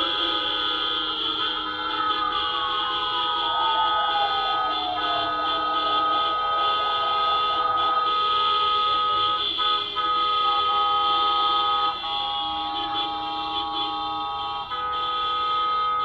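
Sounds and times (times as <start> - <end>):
vehicle horns blasting: 0.0 - 16.0.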